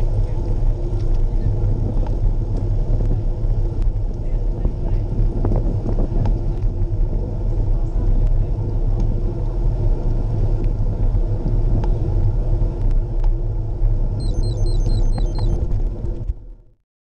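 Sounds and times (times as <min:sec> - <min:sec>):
bicycle tyre noise on road: 0:00.0 - 0:16.8
wind rumble on microphone: 0:00.0 - 0:16.8.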